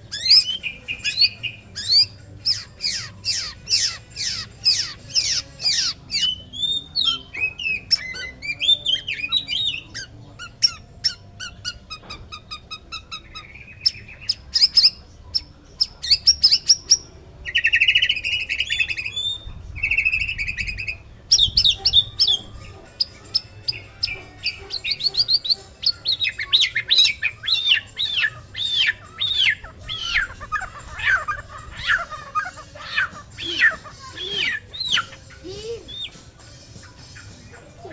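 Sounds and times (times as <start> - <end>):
harsh buzzy bird phrases: 0.0 - 37.9
songbird singing: 0.0 - 37.9.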